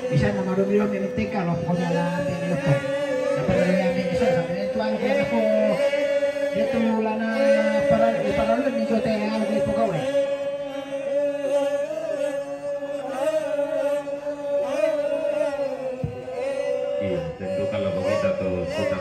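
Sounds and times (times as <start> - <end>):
group of voices chanting: 0.0 - 19.0.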